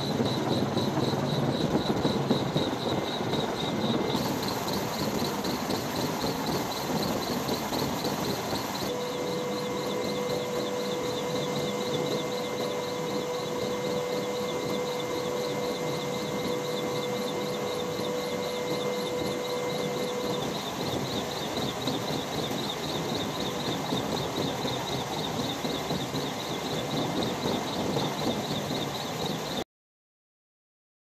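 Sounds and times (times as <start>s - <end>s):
high whine: 0.0s - 29.6s
mechanical rushing noise: 0.0s - 29.6s.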